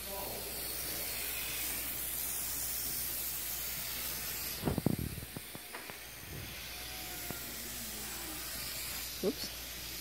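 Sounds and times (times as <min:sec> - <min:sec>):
steady high hiss: 0:00.0 - 0:10.0.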